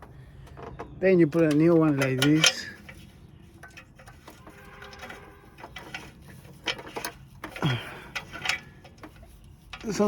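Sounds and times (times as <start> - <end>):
light metallic clicks and rattles: 0.0 - 10.0.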